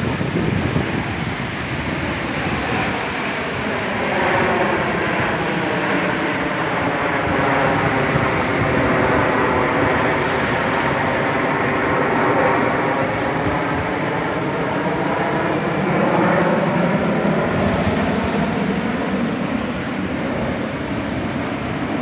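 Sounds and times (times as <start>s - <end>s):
aircraft engine passing: 0.0s - 22.0s.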